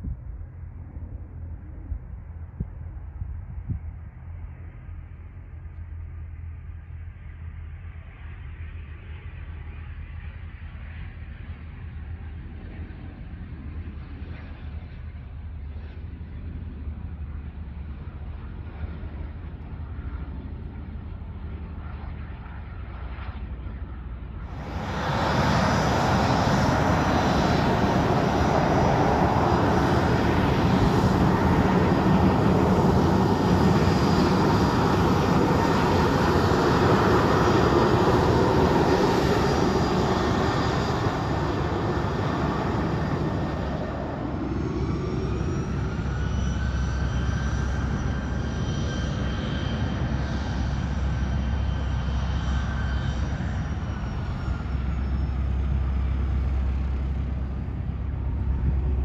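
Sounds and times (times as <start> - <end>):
distant jet engine whine rising: 0.0 - 59.0
jet engines taxiing: 0.0 - 59.0.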